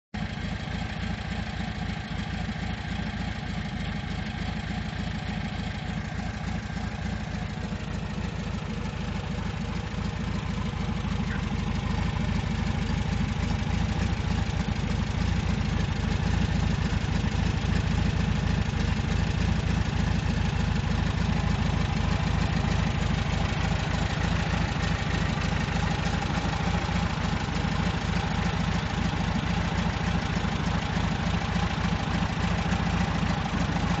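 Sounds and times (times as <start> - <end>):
car engine idling: 0.2 - 34.0.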